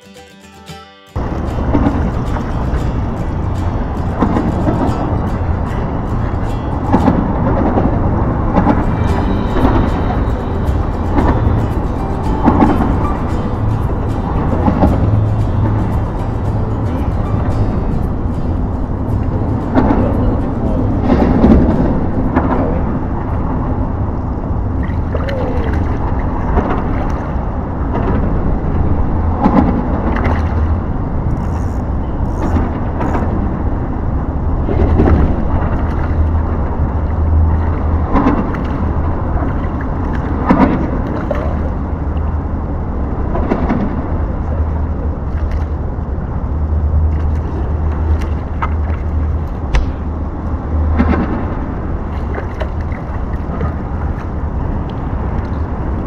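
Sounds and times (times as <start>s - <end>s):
water splashing: 1.2s - 33.8s, 34.5s - 56.0s
steady low rumble: 1.2s - 56.0s.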